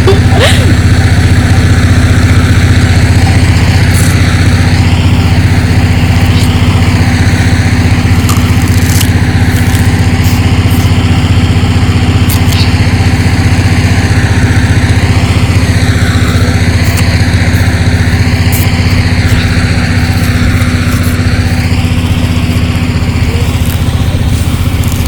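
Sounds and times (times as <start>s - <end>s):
generator engine running: 0.0s - 25.0s.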